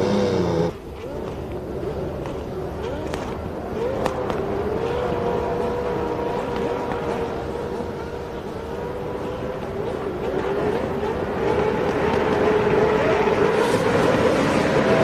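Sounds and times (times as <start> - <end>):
racing car engines revving: 0.0 - 15.0.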